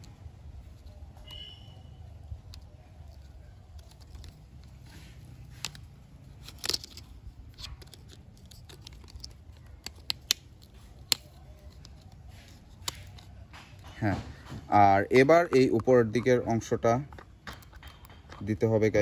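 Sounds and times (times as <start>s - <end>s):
plastic toy parts clicking: 2.0s - 13.9s, 15.2s - 19.0s.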